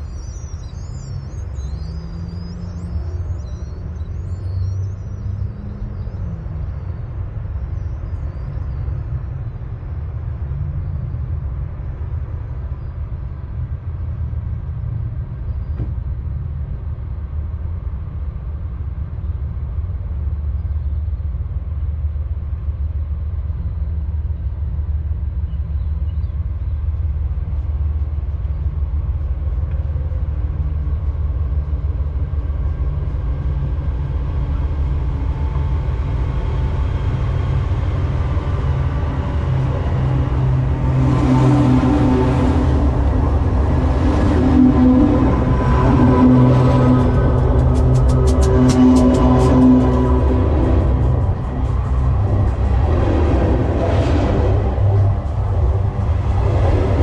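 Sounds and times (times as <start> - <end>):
freight train rumble: 0.0 - 57.0
humming tones in rails: 0.0 - 57.0.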